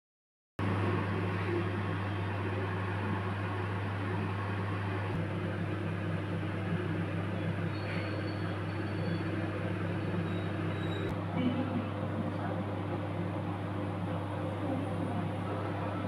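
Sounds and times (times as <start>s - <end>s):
low mechanical hum: 0.6s - 16.0s.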